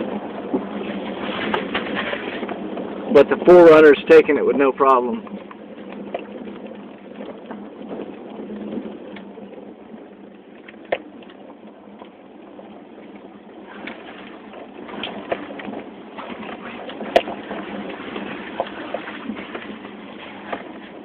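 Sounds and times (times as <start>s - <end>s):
engine and drivetrain drone: 0.0s - 21.0s.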